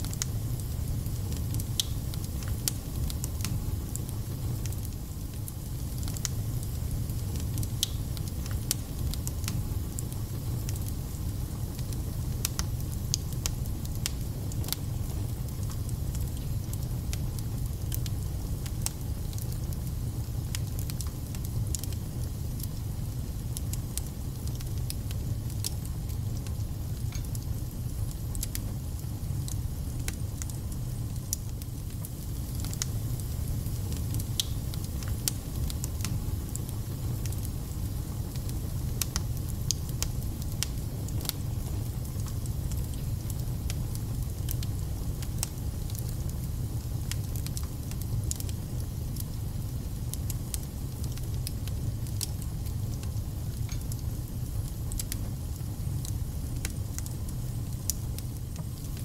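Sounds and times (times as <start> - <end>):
fire crackling and spitting: 0.0 - 59.0
fire rumbling: 0.0 - 59.0.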